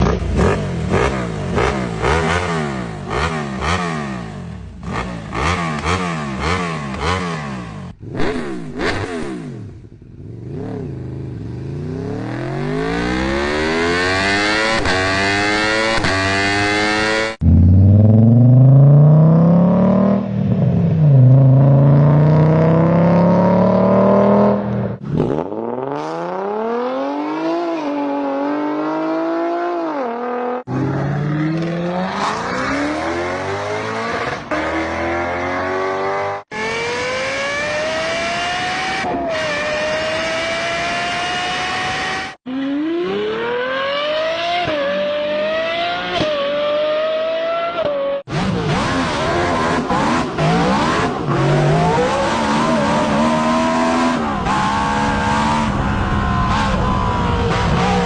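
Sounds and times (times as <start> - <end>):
car engines revving and accelerating: 0.0 - 58.0.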